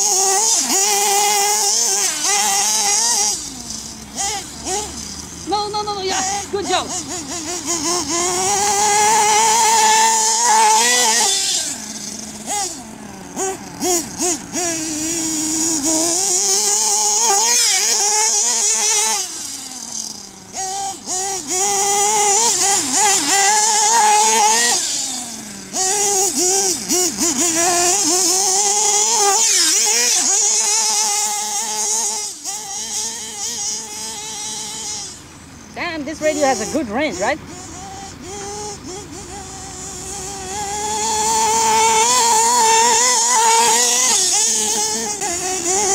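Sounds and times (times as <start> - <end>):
model buggy engine revving: 0.0 - 45.9.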